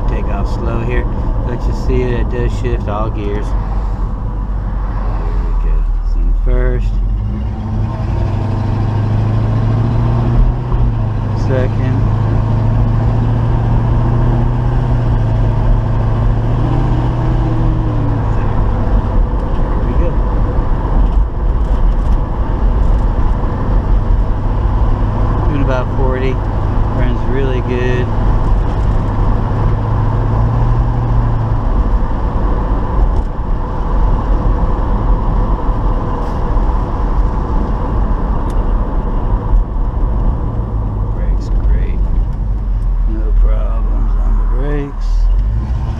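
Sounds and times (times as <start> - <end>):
car engine pulling: 0.0 - 45.9
road noise: 0.0 - 45.9.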